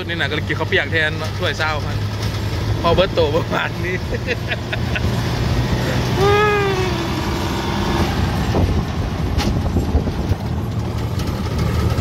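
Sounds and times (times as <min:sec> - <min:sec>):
road noise on dirt road: 0:00.0 - 0:12.0.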